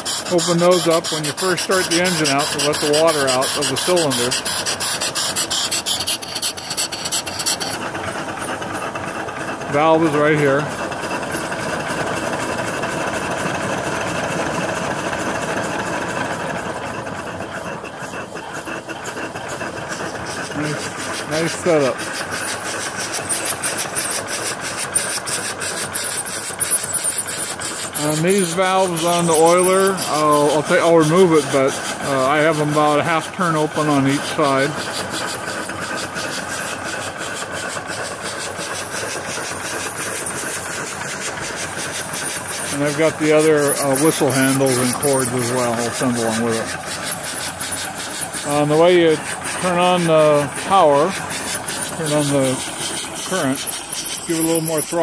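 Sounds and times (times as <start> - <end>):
rushing steam: 0.0 - 55.0
small steam engine running: 0.0 - 55.0.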